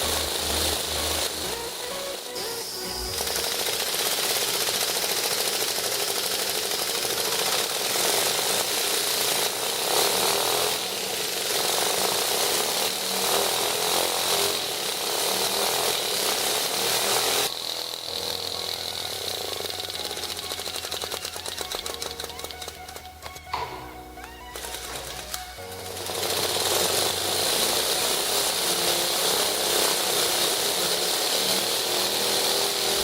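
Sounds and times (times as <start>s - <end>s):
small engine running fast: 0.0s - 33.0s.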